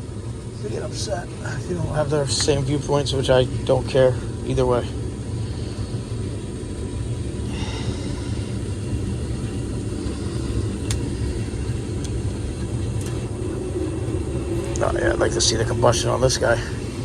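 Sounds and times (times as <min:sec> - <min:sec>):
gas furnace rumbling: 0:00.0 - 0:17.0.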